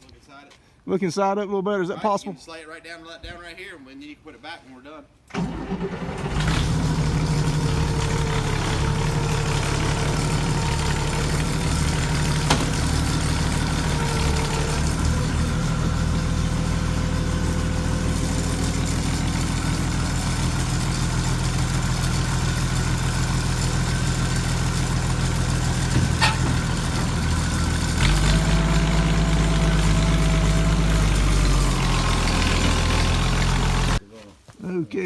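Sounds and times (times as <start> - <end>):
forklift engine revving: 5.3 - 34.0.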